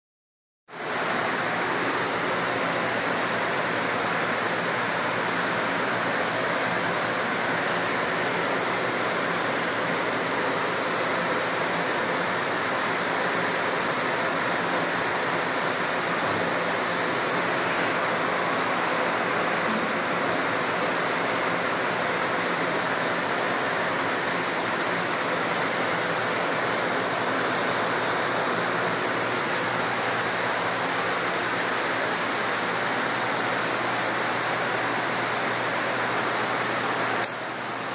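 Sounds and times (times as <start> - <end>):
steady rushing hiss: 0.8 - 37.9.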